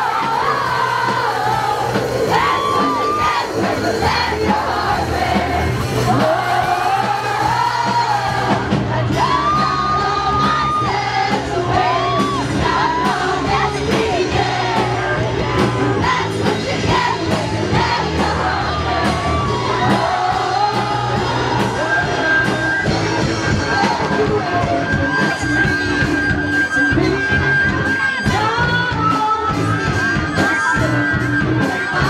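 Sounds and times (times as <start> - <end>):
crowd whooping and yelling: 0.0 - 32.0
live band playing: 0.0 - 32.0
person singing: 0.0 - 32.0.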